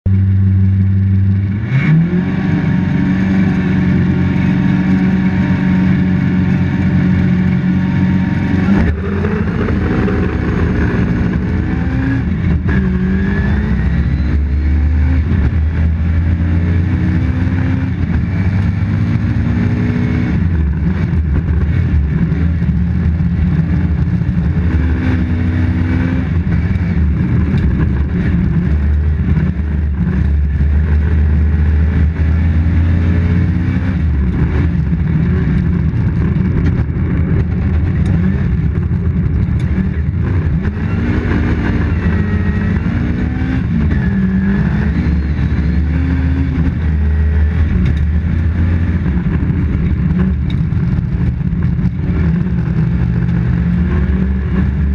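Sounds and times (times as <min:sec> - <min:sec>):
rally car engine accelerating: 0:00.1 - 0:54.9.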